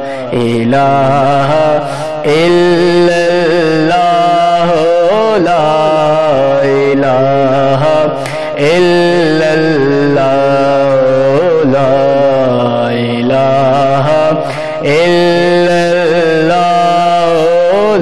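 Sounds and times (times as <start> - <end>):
man singing devotional verse: 0.0 - 18.0.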